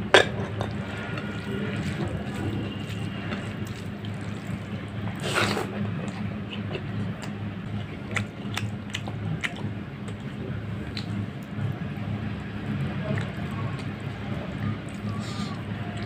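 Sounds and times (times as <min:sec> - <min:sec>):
steady low hum: 0:00.0 - 0:16.0
wet chewing with mouth clicks: 0:00.7 - 0:11.8, 0:12.4 - 0:16.0.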